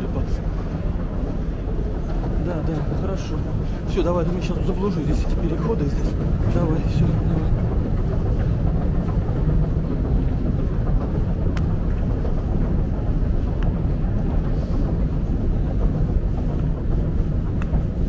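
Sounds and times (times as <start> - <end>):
escalator rumbling: 0.0 - 18.0.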